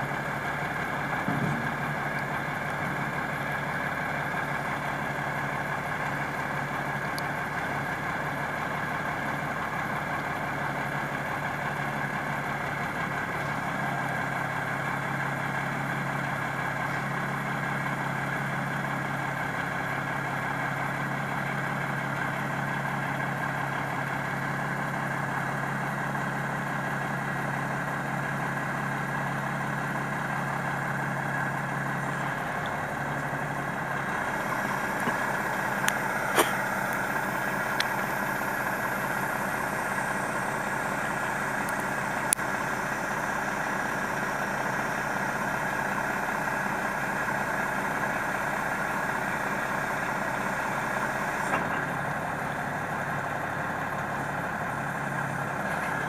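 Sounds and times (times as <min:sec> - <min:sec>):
crane truck engine running: 0:00.0 - 0:56.0.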